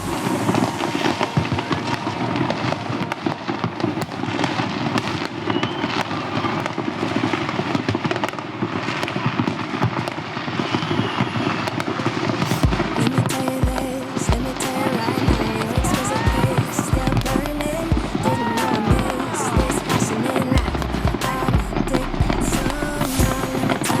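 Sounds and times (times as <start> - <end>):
fireworks and firecrackers crackling: 0.0 - 24.0.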